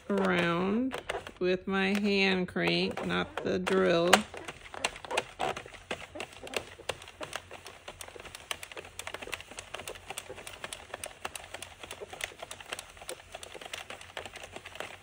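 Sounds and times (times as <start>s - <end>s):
knitting machine clicking: 0.0s - 15.0s.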